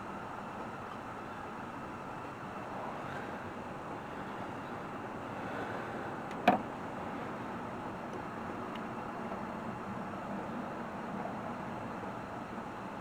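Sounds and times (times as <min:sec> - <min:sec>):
shop heater hissing: 0:00.0 - 0:13.0.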